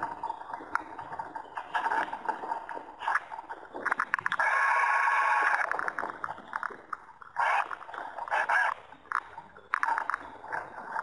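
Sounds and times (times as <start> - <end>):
water splashing against hull: 0.0 - 11.0.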